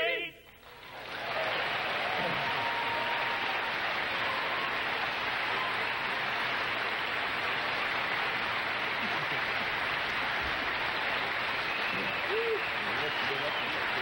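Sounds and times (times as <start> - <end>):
audience applauding: 0.6 - 14.0.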